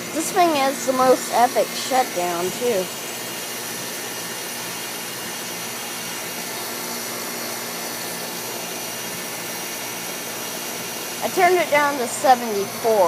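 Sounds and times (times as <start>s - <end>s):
compressor low hum: 0.0s - 13.0s
condenser fan air rush: 0.0s - 13.0s.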